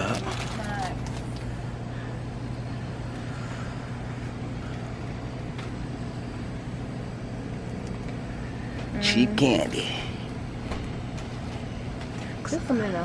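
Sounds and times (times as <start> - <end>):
store background hum and hiss: 0.0 - 13.0.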